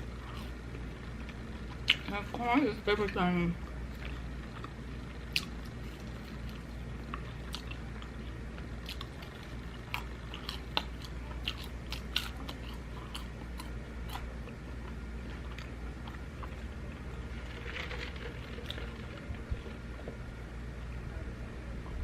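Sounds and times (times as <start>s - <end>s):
person chewing corn on the cob: 0.0s - 2.1s, 3.6s - 20.2s
steady low hum: 0.0s - 22.0s.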